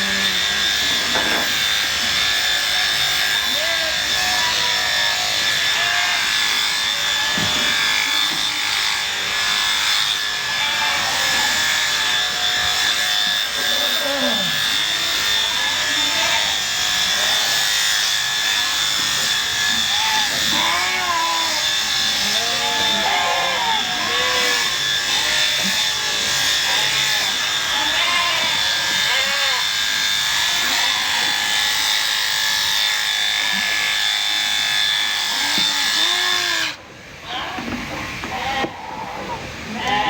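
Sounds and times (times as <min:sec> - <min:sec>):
electric shears buzzing: 0:00.0 - 0:36.8.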